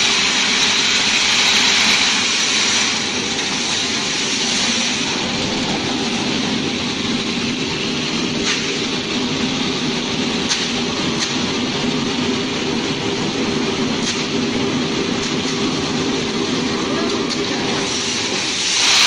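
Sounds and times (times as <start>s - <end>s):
feed grinder droning: 0.0s - 19.0s.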